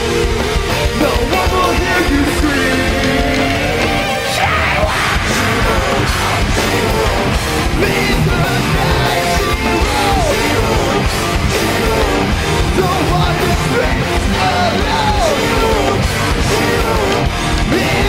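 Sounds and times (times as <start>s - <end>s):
gliding guitar lead lines: 0.0s - 18.0s
live metal band playing: 0.0s - 18.0s.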